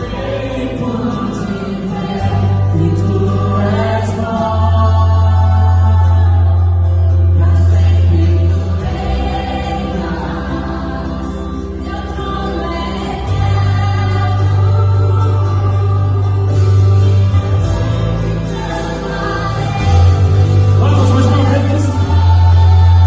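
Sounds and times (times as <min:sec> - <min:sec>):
band playing: 0:00.0 - 0:23.0
sustained bass notes: 0:00.0 - 0:23.0
voices singing together: 0:00.0 - 0:23.0.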